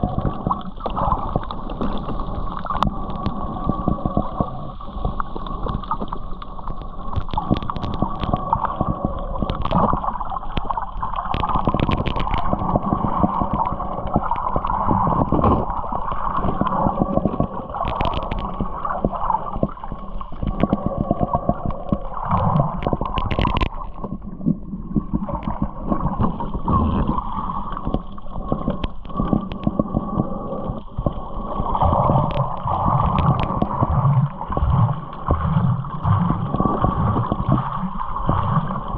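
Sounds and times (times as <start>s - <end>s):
water sloshing along hull: 0.0s - 38.9s.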